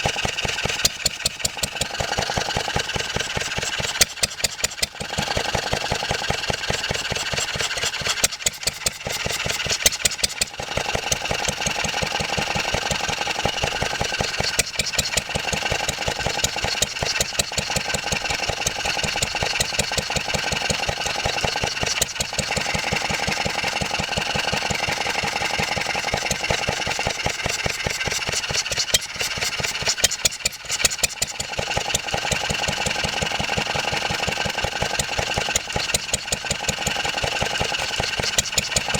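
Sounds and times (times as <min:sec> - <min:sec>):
stationary engine running: 0:00.0 - 0:38.9.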